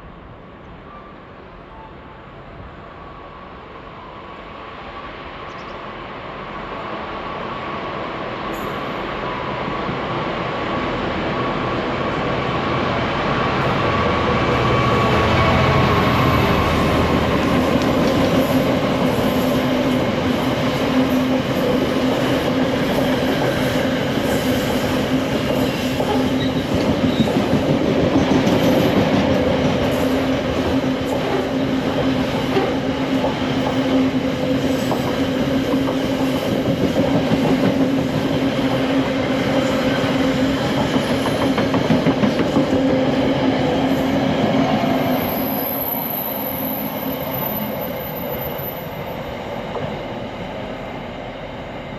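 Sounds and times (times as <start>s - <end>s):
train rumbling past: 0.0s - 51.9s.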